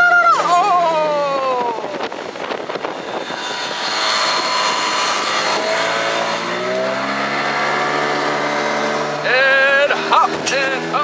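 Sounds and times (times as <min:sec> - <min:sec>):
motorboat engine running: 0:00.6 - 0:11.0.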